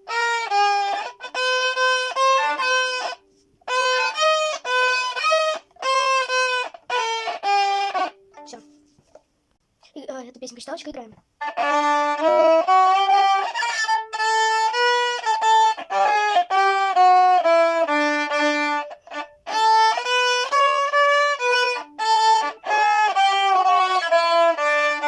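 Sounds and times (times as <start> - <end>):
bowed violin tune: 0.0 - 8.8, 11.4 - 25.0.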